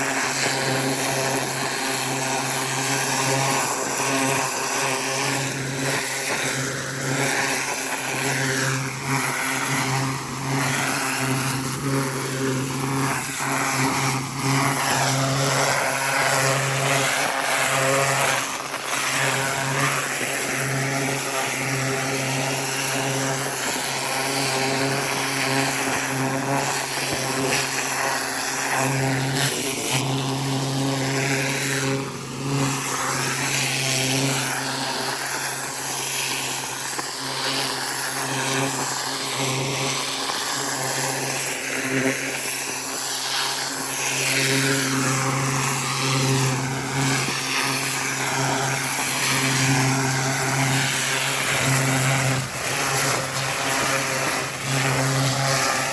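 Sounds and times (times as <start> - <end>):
pressure washer engine running: 0.0 - 55.9
water jet hissing on ground: 0.0 - 55.9.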